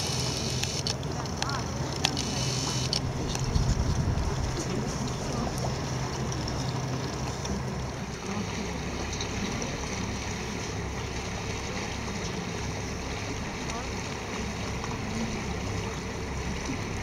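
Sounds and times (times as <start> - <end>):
boat engine droning: 0.0 - 17.0
water rushing along hull: 0.0 - 17.0.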